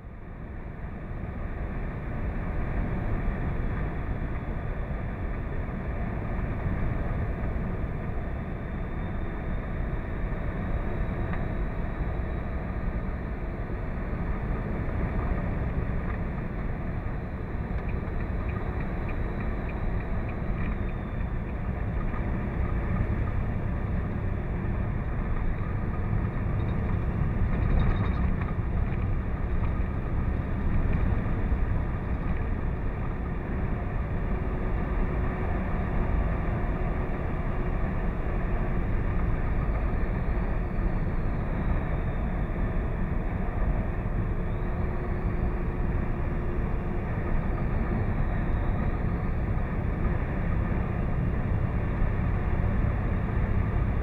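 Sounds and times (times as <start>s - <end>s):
truck cab road noise: 0.0s - 54.0s.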